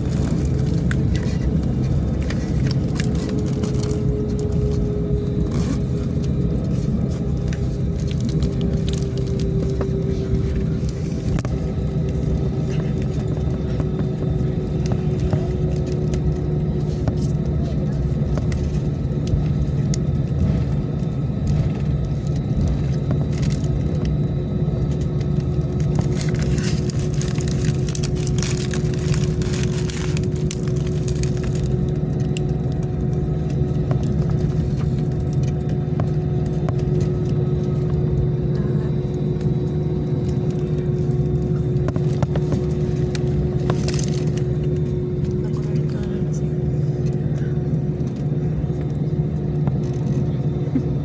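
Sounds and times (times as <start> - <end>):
airliner engines droning: 0.0 - 51.0.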